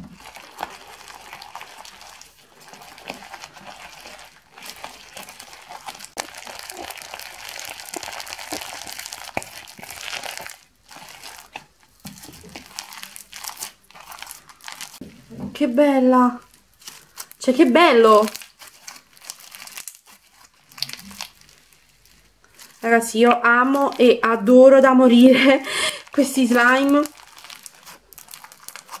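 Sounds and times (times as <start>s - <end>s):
slime crinkling and crackling: 0.0s - 29.0s.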